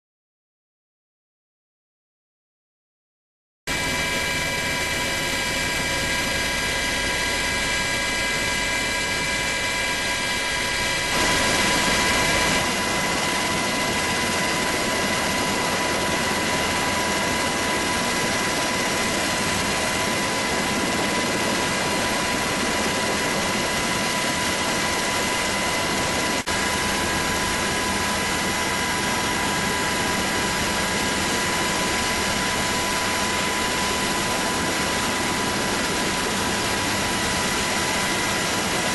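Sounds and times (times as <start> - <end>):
helicopter rotor and engine noise: 3.7 - 38.9
high turbine whine: 3.7 - 38.9.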